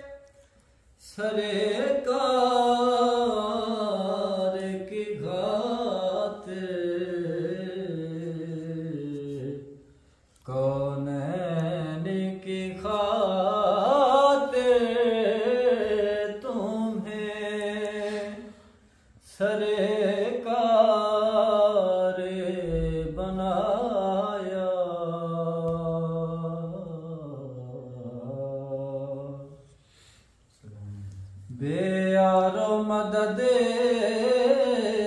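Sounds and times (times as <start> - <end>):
man singing unaccompanied: 1.0 - 9.8, 10.5 - 18.6, 19.2 - 29.6, 30.6 - 35.0.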